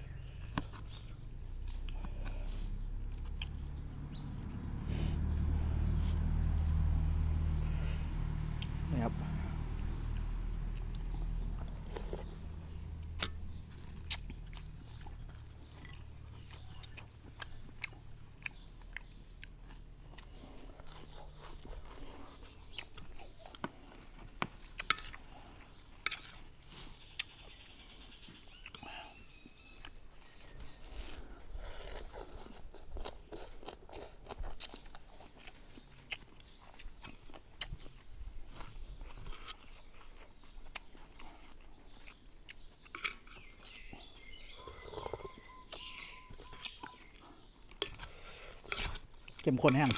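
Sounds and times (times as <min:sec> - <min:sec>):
chewing and biting noodles: 0:00.0 - 0:08.8, 0:09.6 - 0:49.9.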